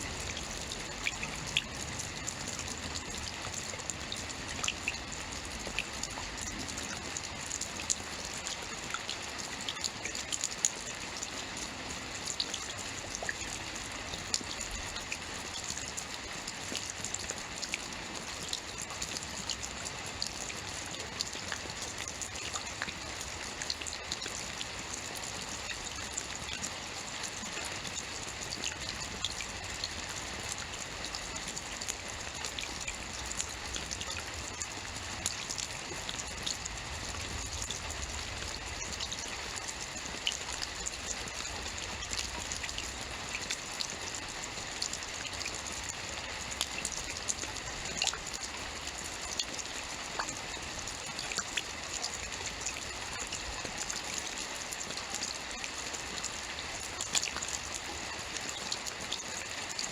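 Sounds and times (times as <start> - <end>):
raindrops pattering on a surface: 0.0 - 59.9
steady rain hiss: 0.0 - 59.9.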